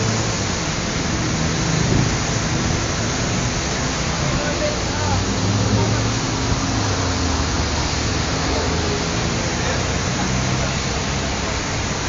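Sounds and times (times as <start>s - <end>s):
road and wind noise hiss: 0.0s - 12.0s.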